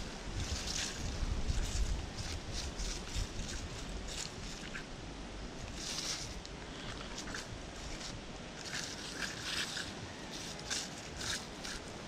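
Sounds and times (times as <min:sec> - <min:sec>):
rustling in dry leaves: 0:00.0 - 0:12.0
wind rumble on microphone: 0:00.0 - 0:12.0.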